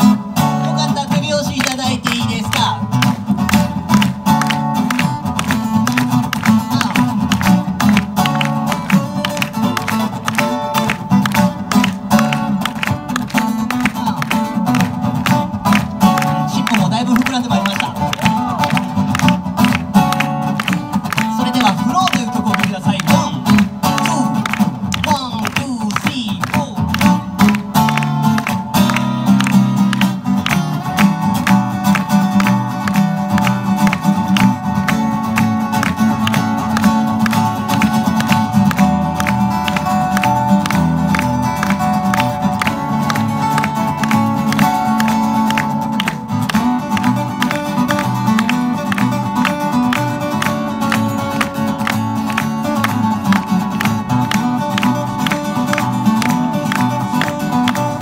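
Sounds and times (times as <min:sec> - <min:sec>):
acoustic guitars duet: 0:00.0 - 0:58.0.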